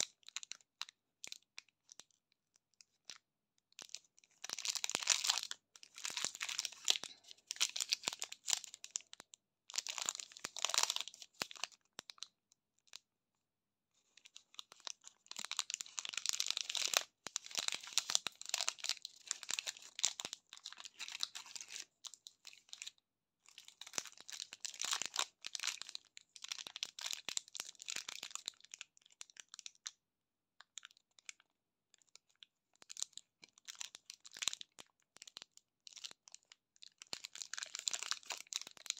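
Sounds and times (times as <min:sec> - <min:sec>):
candy wrappers crinkling: 0:00.0 - 0:13.1, 0:14.0 - 0:30.0, 0:32.0 - 0:38.9.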